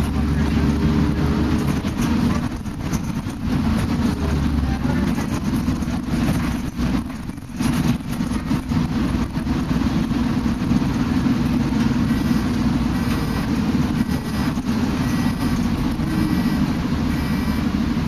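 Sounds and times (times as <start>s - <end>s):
bus engine and road drone: 0.0s - 18.0s.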